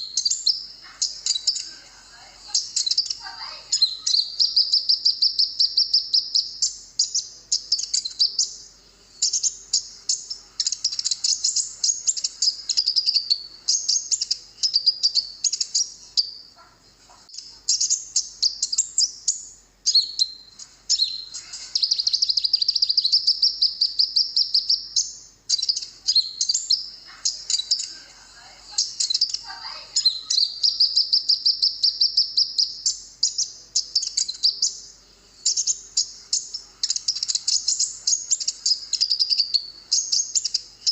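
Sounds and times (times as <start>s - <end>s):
bird chirps and trills: 0.0s - 40.9s.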